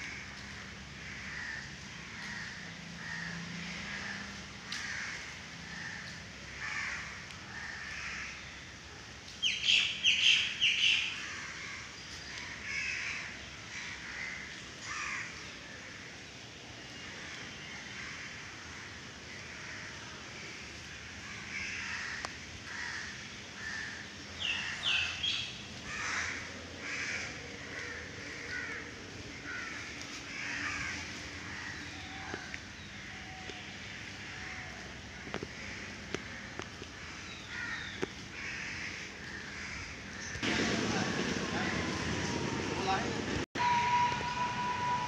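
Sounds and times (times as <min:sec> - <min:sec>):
birds calling: 0:00.0 - 0:15.8, 0:20.8 - 0:45.0
steady outdoor hiss: 0:00.0 - 0:45.0.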